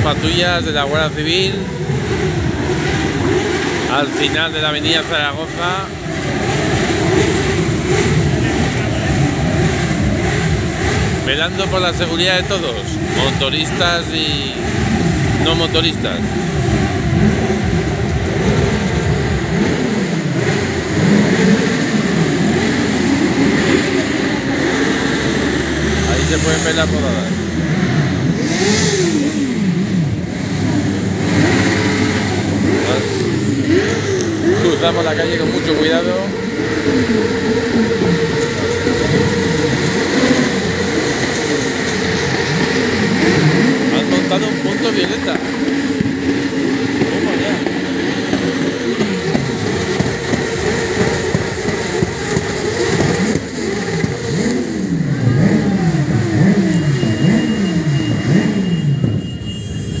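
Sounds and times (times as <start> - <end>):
car engines revving: 0.0 - 60.0
motorcycle engine revving: 0.0 - 60.0.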